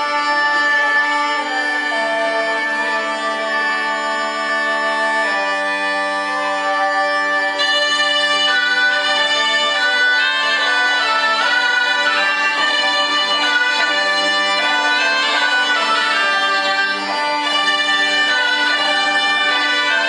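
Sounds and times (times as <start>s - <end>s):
bagpipe and shawm playing: 0.0s - 20.0s.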